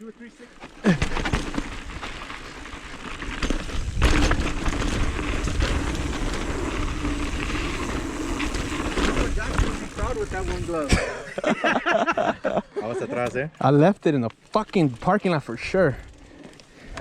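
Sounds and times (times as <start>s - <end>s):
bike tyres on dirt trail: 0.0s - 12.3s, 13.2s - 17.0s.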